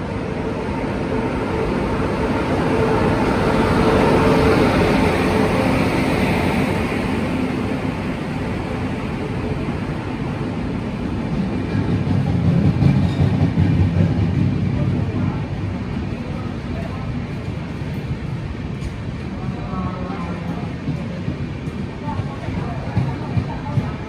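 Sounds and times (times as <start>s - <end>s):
train coaches rolling past: 0.0s - 24.0s.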